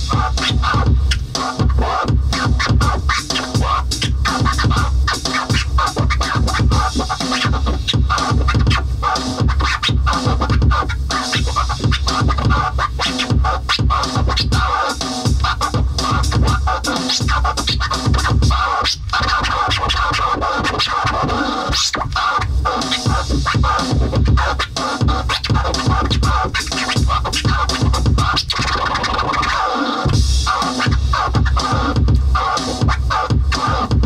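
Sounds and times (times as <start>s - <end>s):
electronic beat with bass and kick: 0.0s - 34.0s
record scratching: 0.0s - 34.0s.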